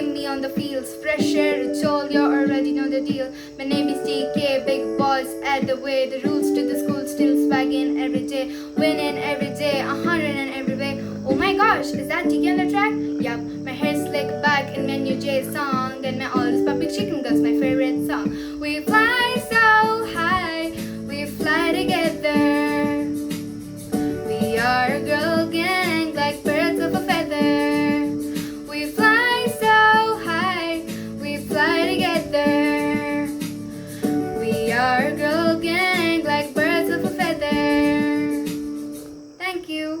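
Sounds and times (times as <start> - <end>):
girl singing high: 0.0 - 23.3, 24.2 - 33.4, 39.4 - 40.0.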